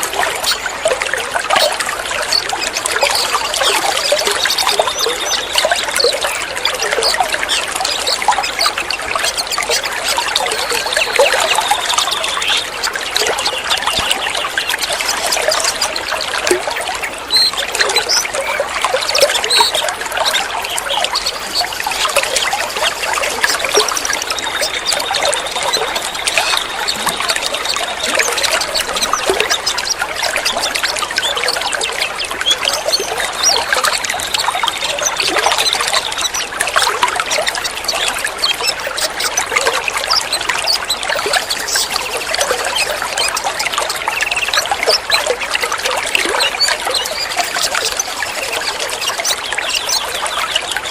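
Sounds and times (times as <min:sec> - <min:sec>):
bird chirps: 0:00.0 - 0:50.9
trickling gurgling water: 0:00.0 - 0:50.9.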